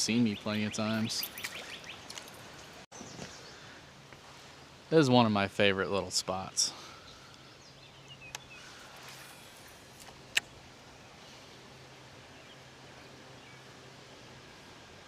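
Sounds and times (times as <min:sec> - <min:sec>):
river ambience: 0:00.0 - 0:15.0.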